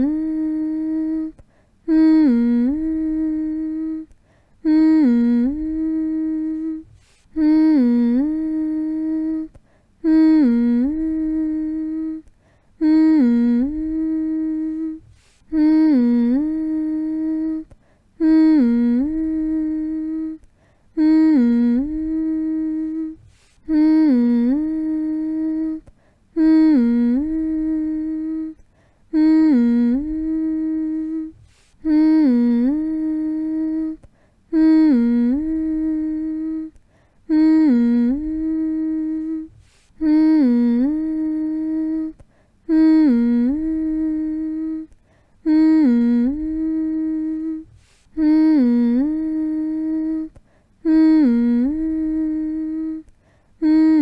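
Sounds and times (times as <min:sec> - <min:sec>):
person humming: 0:00.0 - 0:54.0.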